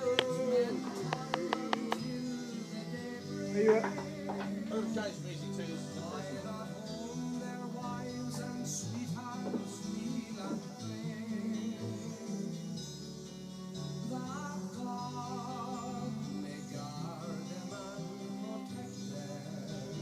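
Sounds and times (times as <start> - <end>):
song with singing over guitar: 0.0 - 20.0.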